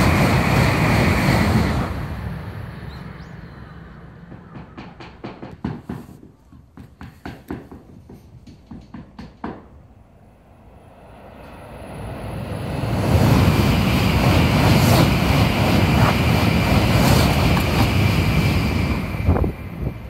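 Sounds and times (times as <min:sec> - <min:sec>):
train roaring past: 0:00.0 - 0:05.9, 0:09.6 - 0:20.0.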